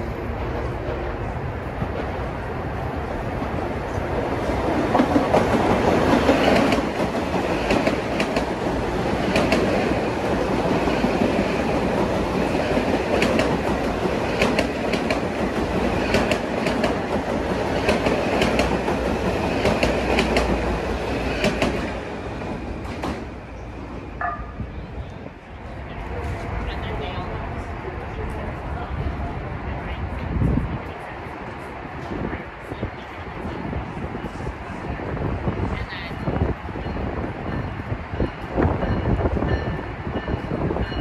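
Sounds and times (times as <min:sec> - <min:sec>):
train rumbling past: 0:00.0 - 0:41.0.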